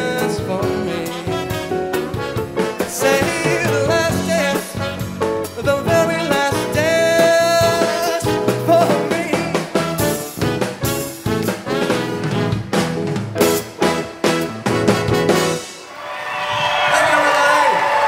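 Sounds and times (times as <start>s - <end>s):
swing band playing: 0.0s - 15.9s.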